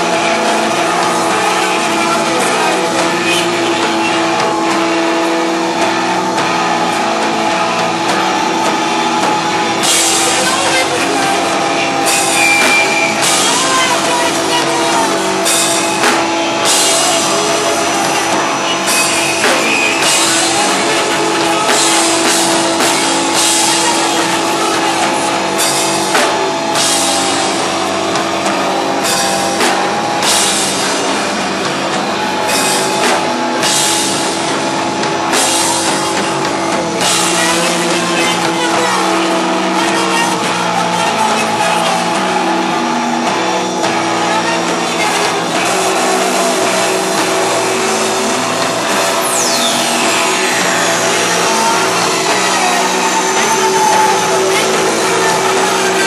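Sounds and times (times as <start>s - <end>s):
cymbal crashes: 0.0s - 56.0s
live rock band playing: 0.0s - 56.0s.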